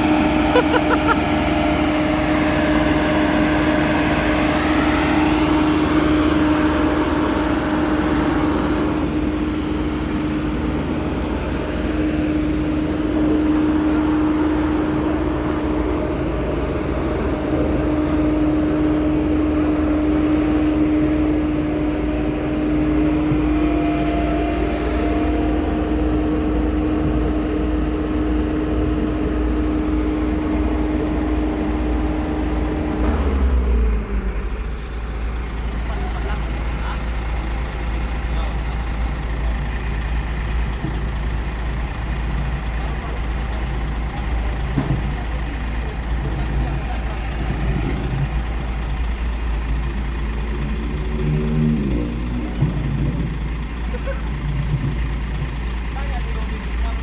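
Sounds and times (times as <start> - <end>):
diesel roller engine droning: 0.0 - 57.0.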